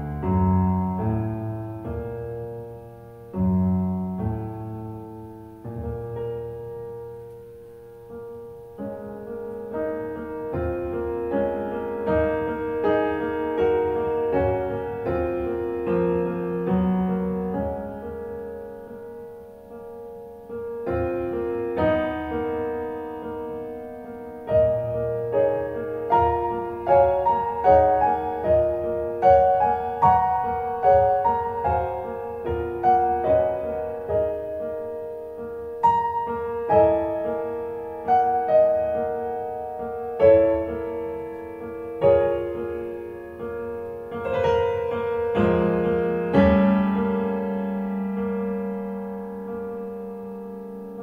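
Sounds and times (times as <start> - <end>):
solo piano through loudspeakers: 0.0 - 51.0.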